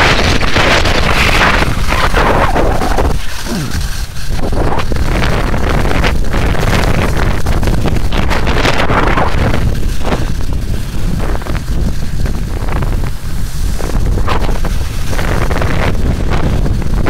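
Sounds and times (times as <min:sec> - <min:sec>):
skis swishing through snow: 0:00.0 - 0:17.0
wind buffeting microphone: 0:00.0 - 0:17.0.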